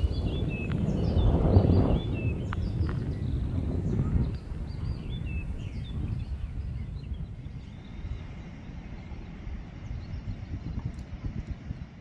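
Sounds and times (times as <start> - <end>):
small birds chirping: 0.0 - 12.0
wind rumble on microphone: 0.0 - 12.0.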